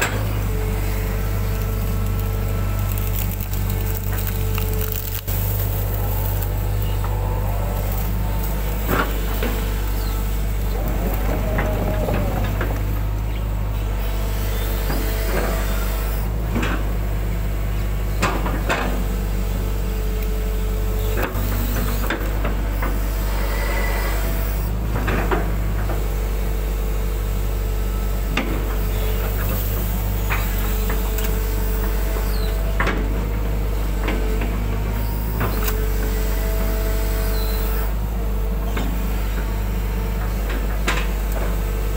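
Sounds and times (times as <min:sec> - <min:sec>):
diesel engine droning: 0:00.0 - 0:41.9
hydraulic whine: 0:00.0 - 0:41.9.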